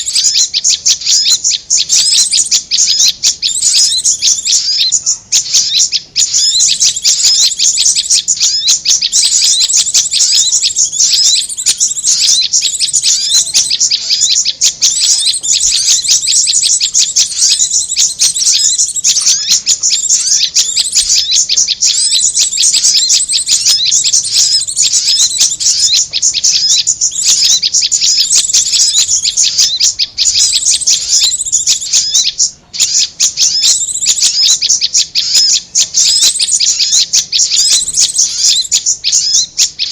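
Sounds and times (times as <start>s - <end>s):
high-pitched bird chirping and trilling: 0.0s - 39.9s.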